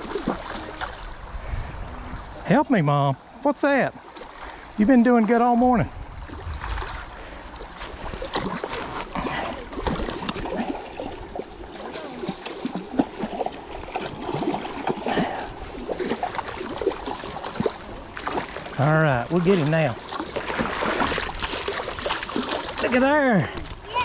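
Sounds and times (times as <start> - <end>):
stream running over rocks: 0.0 - 24.0
water splashing and sloshing: 0.0 - 24.0.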